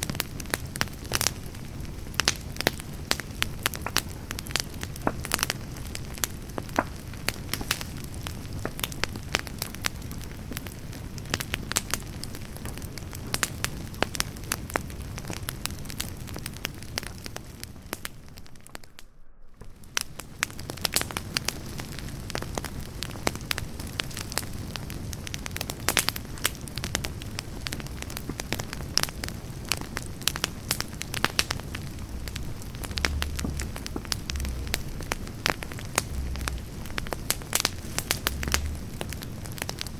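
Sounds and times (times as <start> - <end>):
campfire crackling and popping: 0.0 - 39.9
low rushing of flame: 0.3 - 39.9.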